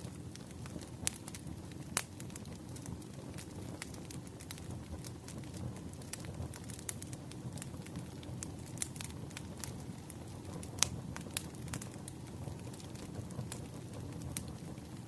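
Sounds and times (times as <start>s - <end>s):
burning firewood crackling: 0.0s - 15.0s.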